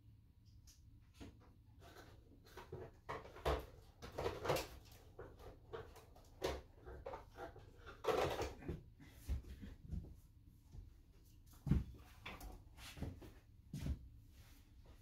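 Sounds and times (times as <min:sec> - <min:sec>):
light knocks and rustles of handling: 0:01.1 - 0:15.0.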